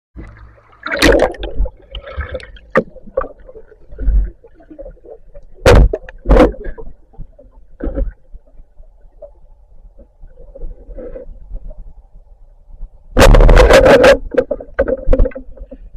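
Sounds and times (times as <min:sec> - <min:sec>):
water splashing and gurgling: 0:00.2 - 0:11.8, 0:13.2 - 0:15.9
rumbling water: 0:00.2 - 0:15.9.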